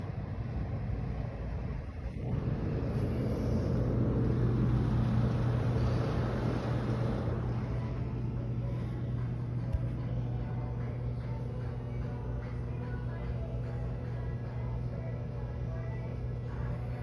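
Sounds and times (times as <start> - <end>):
low mechanical hum with rushing: 0.0 - 17.0.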